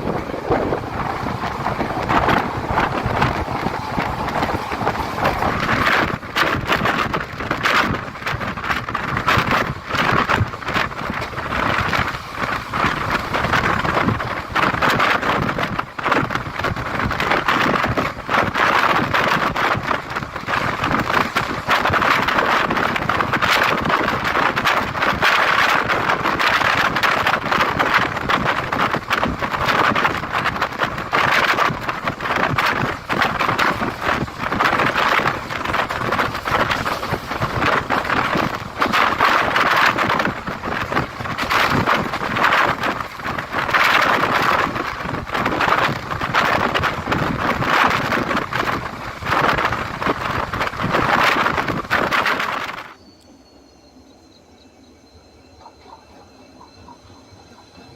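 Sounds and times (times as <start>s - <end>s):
train wheels on rails rattling: 0.0s - 57.9s
wind: 0.0s - 57.9s.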